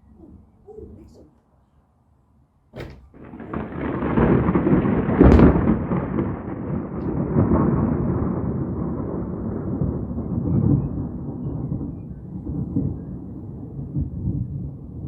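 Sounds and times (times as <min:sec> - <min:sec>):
thunder crack: 0:02.8 - 0:15.0
thunder rumbling: 0:02.8 - 0:15.0.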